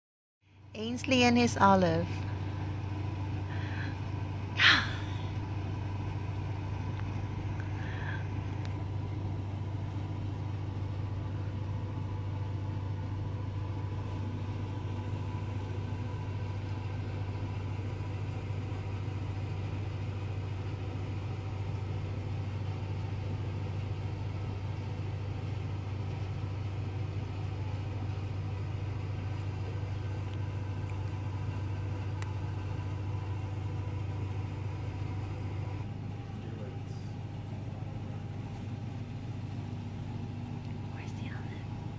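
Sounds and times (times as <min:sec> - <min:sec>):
low mechanical hum: 0:00.4 - 0:41.9.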